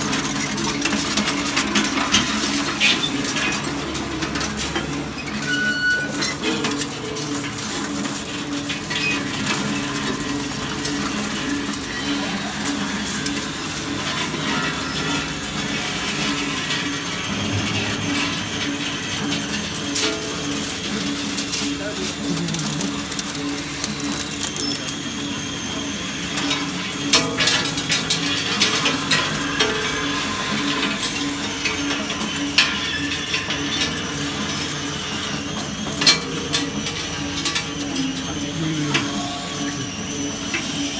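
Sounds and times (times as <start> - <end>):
metal shredder humming drone: 0.0 - 40.9.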